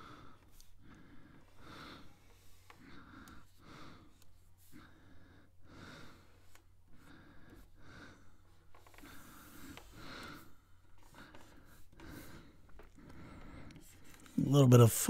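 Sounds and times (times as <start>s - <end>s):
faint breathing: 0.0s - 14.4s.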